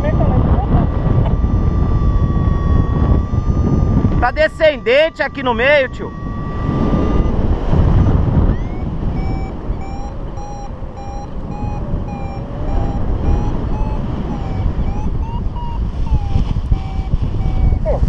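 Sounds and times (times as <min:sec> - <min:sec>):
steady variometer tone: 0:00.0 - 0:18.0
variometer beeping: 0:00.0 - 0:18.0
wind rushing across microphone: 0:00.0 - 0:18.0.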